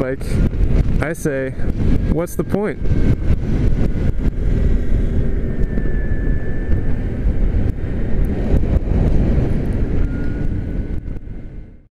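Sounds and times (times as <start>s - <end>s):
wind and road rumble: 0.0s - 11.9s
electric motor whine: 1.8s - 11.8s.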